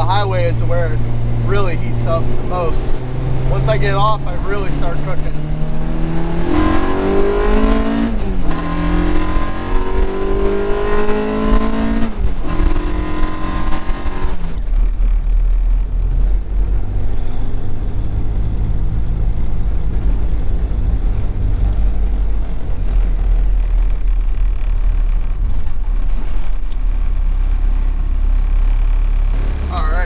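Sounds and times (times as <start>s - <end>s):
car engine accelerating through gears: 0.0s - 30.0s
low road rumble: 0.0s - 30.0s.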